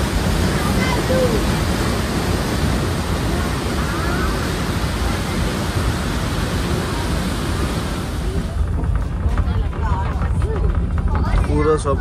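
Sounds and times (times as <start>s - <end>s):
funicular car running on track: 0.0s - 12.0s
wind over microphone: 0.0s - 12.0s.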